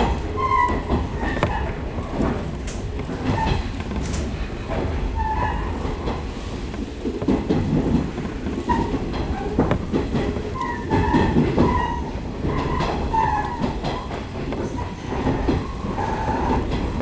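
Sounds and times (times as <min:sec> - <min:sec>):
train wheels rumbling on rail: 0:00.0 - 0:17.0
wheels clicking over rail joints: 0:00.0 - 0:17.0.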